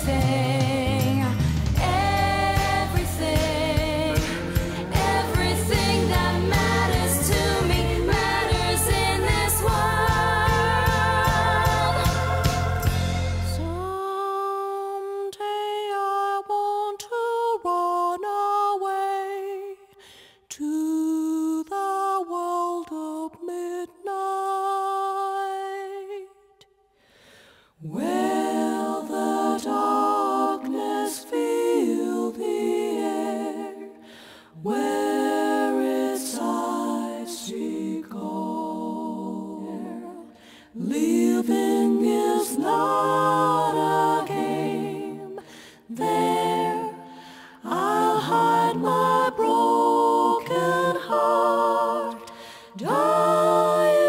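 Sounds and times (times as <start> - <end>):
voices singing in harmony: 0.0 - 26.4, 27.7 - 54.0.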